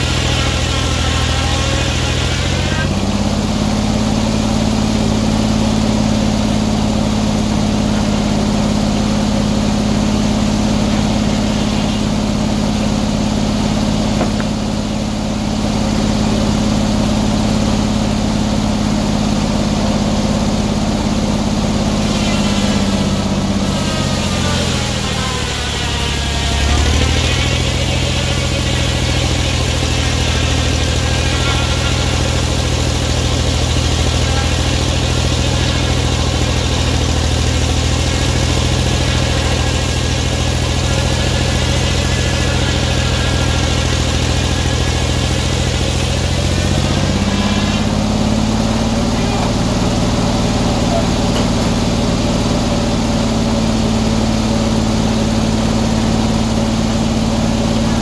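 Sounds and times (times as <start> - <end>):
circular sawmill engine running: 0.0 - 58.0.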